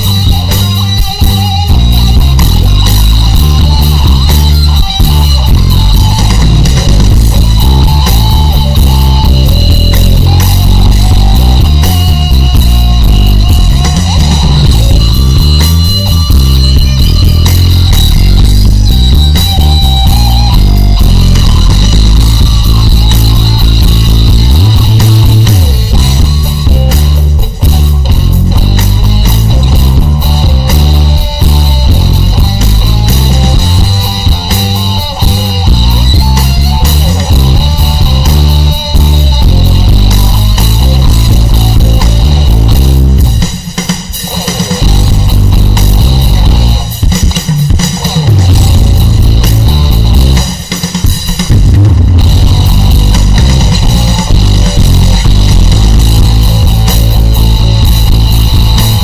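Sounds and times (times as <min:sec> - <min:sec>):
instrumental rock music: 0:00.0 - 0:59.0.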